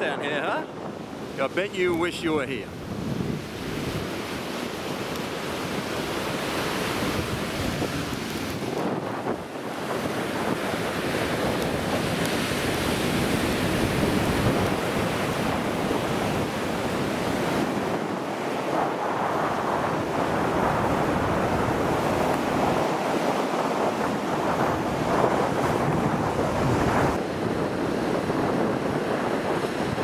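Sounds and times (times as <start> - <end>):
ocean surf washing on beach: 0.0 - 30.0
wind buffeting microphone: 0.0 - 30.0.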